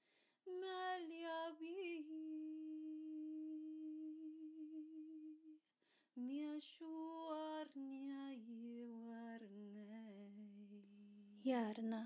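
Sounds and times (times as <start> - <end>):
woman singing wordless tones: 0.5 - 5.6, 6.2 - 12.0.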